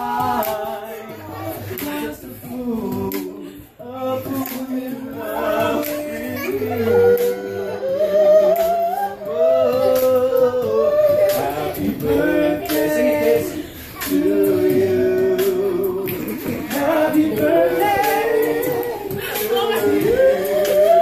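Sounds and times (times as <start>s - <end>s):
men singing unaccompanied: 0.0s - 21.0s.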